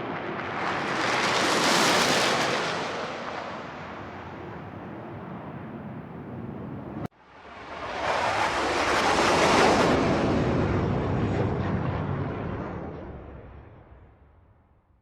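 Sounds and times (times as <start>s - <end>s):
jet aircraft flyby roar: 0.0s - 14.0s.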